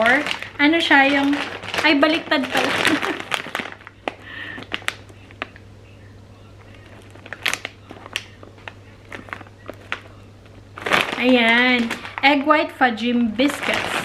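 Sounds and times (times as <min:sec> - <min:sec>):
plastic bag crinkling: 0:00.0 - 0:05.6, 0:06.6 - 0:14.0.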